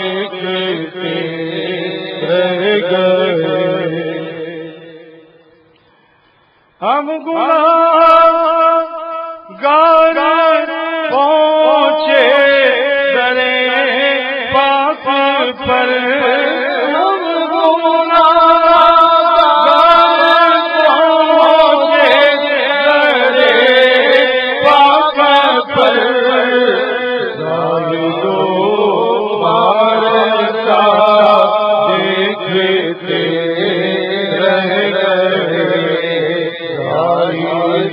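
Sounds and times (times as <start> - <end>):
man chanting unaccompanied: 0.0 - 5.6, 6.8 - 37.9.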